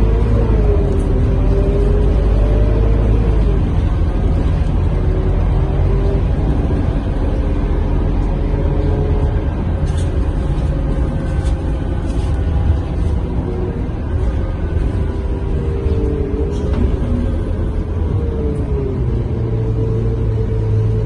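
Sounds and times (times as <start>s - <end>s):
bus diesel engine running: 0.0s - 21.0s
drivetrain and road rumble: 0.0s - 21.0s.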